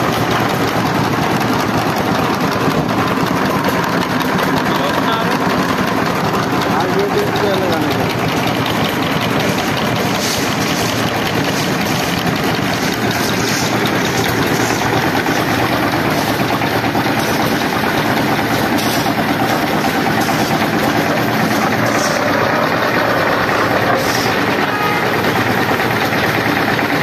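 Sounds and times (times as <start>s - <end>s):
concrete mixer engine running: 0.0s - 27.0s.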